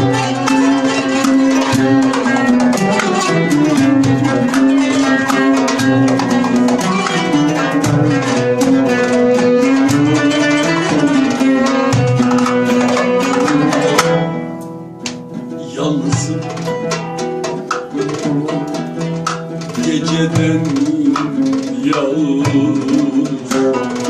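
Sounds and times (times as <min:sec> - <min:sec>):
frame drum beating: 0:00.0 - 0:14.4, 0:16.0 - 0:24.0
violin melody: 0:00.0 - 0:20.7
oud plucked: 0:00.0 - 0:24.0.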